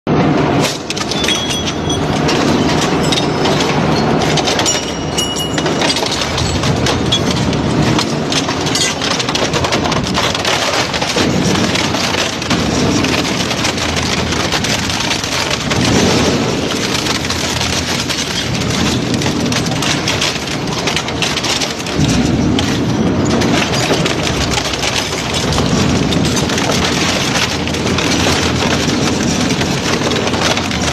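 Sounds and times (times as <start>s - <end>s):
metal and plastic crunching: 0.1s - 30.9s
shredder deep grinding: 0.6s - 30.9s.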